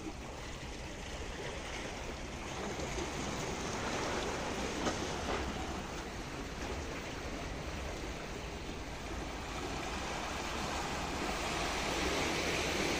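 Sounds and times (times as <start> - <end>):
waves splashing against rocks: 0.0 - 12.9.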